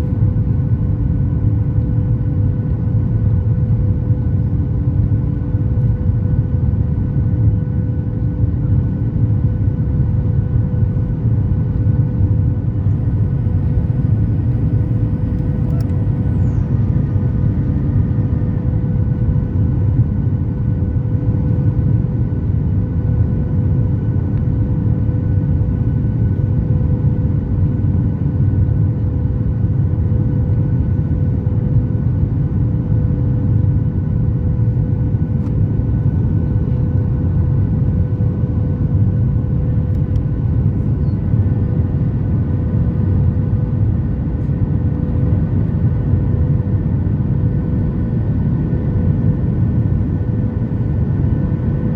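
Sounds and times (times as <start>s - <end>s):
airliner cabin engine rumble: 0.0s - 51.9s
constant hum: 0.0s - 51.9s.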